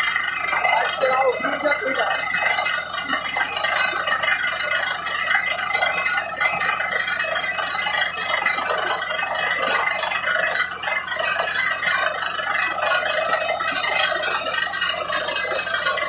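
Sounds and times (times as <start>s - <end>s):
drilling rig running: 0.0s - 16.0s.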